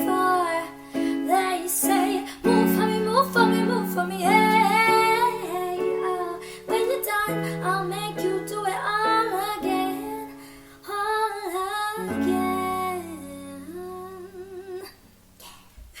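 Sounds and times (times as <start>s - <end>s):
woman singing with vibrato: 0.0s - 15.0s.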